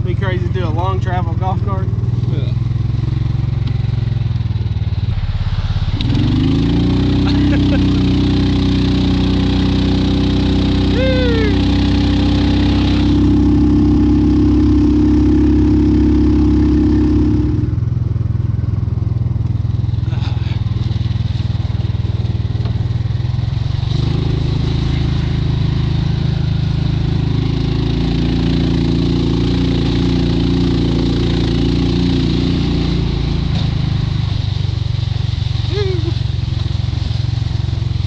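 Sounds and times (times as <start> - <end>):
golf cart engine running: 0.0 - 38.0.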